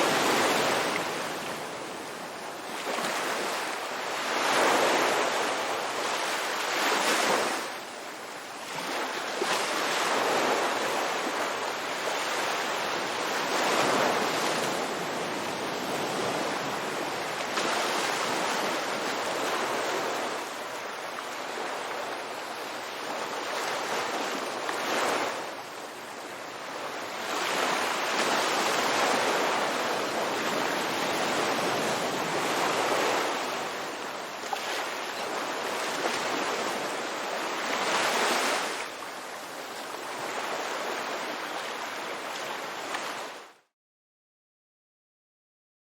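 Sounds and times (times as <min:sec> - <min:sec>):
ocean waves breaking on beach: 0:00.0 - 0:43.6.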